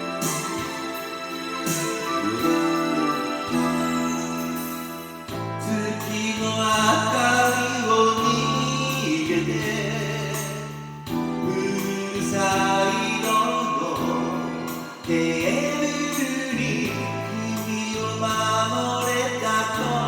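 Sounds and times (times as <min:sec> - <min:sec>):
karaoke backing track: 0:00.0 - 0:20.0
person singing karaoke: 0:00.0 - 0:20.0.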